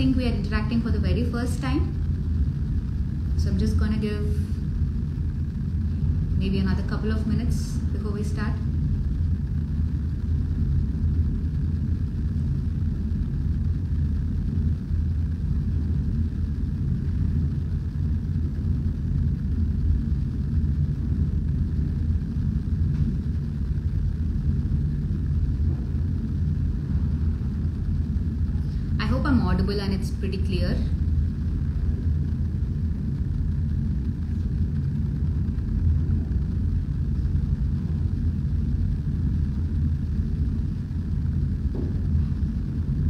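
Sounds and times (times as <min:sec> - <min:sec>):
low background rumble: 0:00.0 - 0:43.0.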